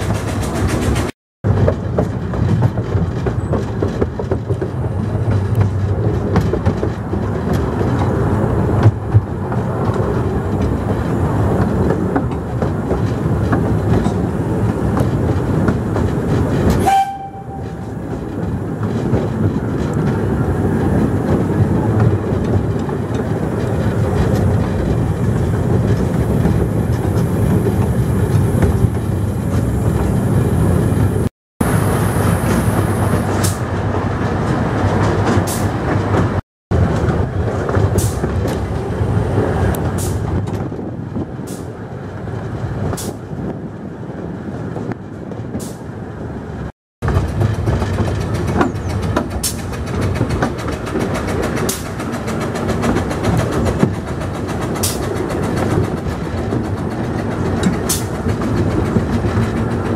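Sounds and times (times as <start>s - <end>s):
train running rumble: 0.0s - 59.9s
wheels clicking over track: 0.0s - 59.9s.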